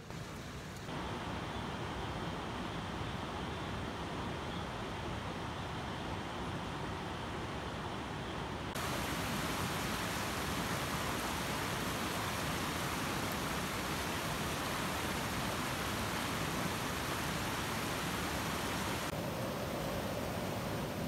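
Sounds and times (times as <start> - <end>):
steady hiss of noise: 0.0 - 21.0.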